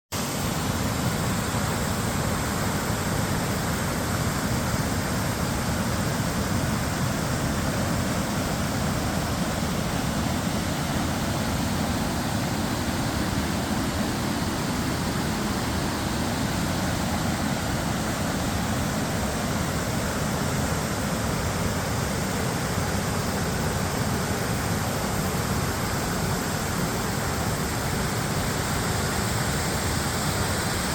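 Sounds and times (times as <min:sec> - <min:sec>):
waterfall roaring: 0:00.2 - 0:30.9.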